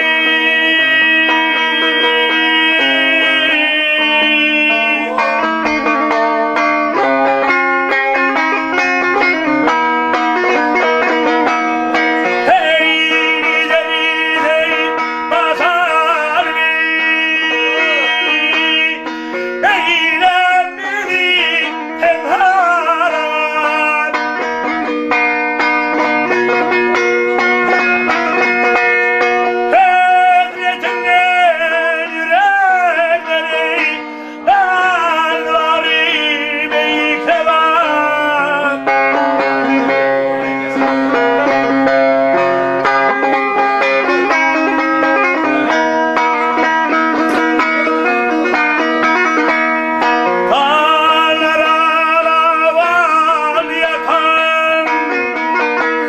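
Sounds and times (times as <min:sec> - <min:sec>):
long-necked lute strummed fast: 0:00.0 - 0:56.0
man singing folk song: 0:00.0 - 0:56.0.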